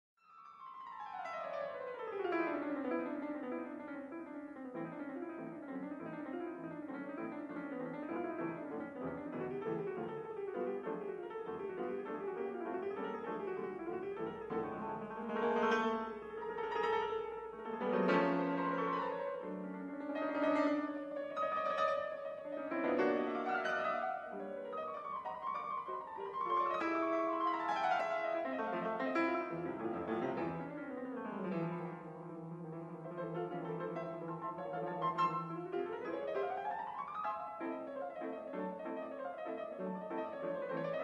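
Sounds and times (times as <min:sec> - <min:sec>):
piano music: 0:00.5 - 0:41.0.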